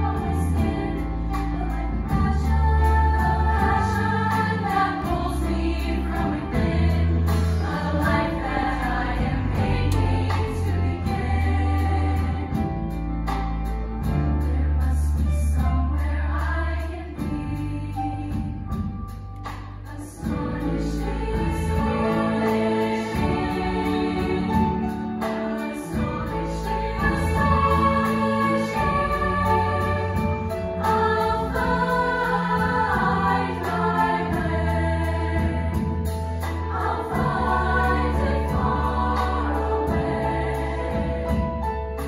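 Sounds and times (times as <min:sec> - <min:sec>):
women's choir singing in harmony: 0:00.0 - 0:13.1, 0:14.0 - 0:18.8, 0:19.8 - 0:42.0
instrumental accompaniment with heavy bass: 0:00.0 - 0:42.0.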